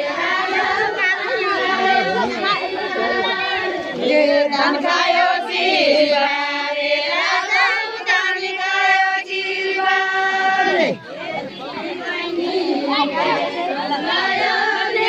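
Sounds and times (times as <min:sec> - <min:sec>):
group of women singing: 0:00.0 - 0:15.0.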